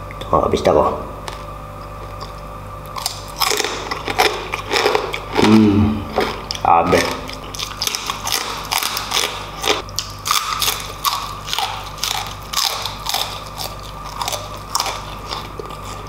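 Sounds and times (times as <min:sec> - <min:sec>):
chewing crispy pork: 0:01.2 - 0:16.0.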